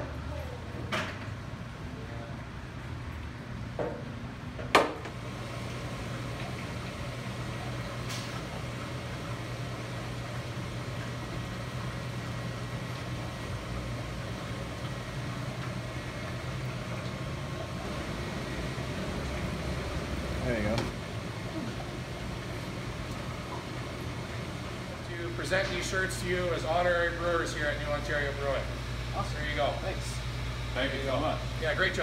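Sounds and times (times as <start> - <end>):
machinery humming: 5.0 - 32.0.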